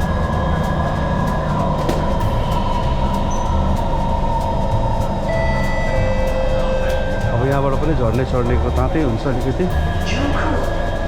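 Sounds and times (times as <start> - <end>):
high electric whine: 0.0 - 11.0
metro train rumble: 0.0 - 11.0.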